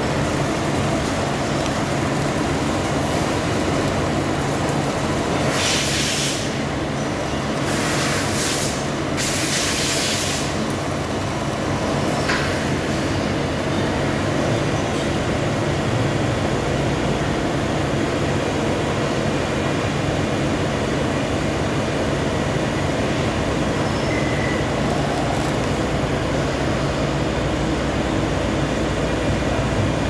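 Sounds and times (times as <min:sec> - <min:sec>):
lathe machine running: 0:00.0 - 0:30.0.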